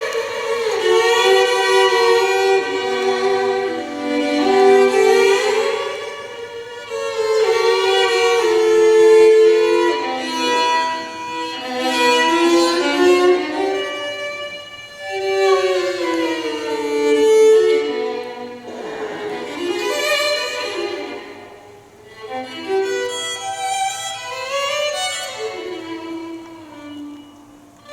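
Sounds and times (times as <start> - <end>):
violin slow melody: 0.0 - 27.9.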